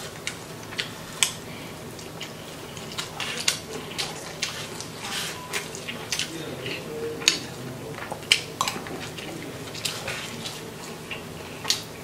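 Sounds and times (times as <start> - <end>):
chewing and lip-smacking: 0.0 - 12.0.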